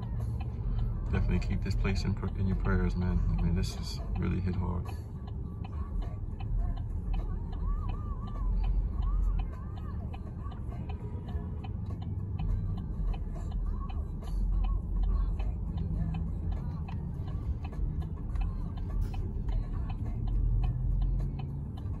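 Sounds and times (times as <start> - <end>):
low engine and cabin rumble: 0.0 - 22.0
turn signal ticking: 0.0 - 22.0.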